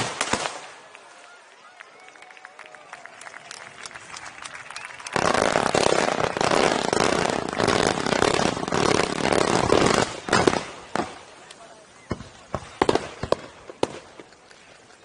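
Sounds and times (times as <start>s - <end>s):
firework fountains hissing and popping: 0.0s - 15.0s
fireworks crackling: 0.0s - 15.0s.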